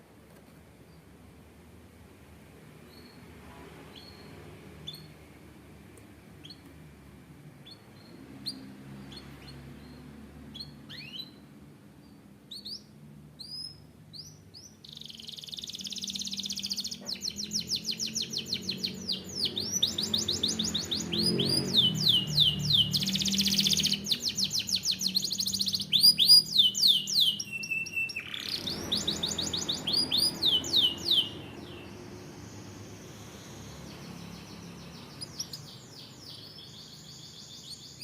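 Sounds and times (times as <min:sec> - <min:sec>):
canary singing: 0:02.8 - 0:05.3, 0:06.3 - 0:06.8, 0:07.6 - 0:38.0.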